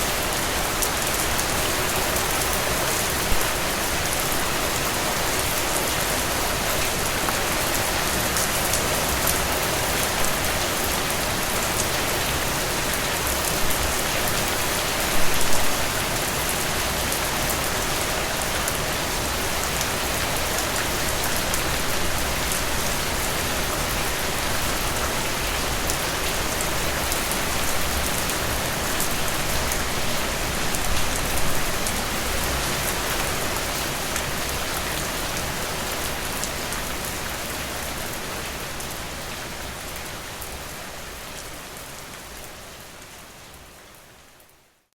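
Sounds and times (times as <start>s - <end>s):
rain on a roof: 0.0s - 44.9s.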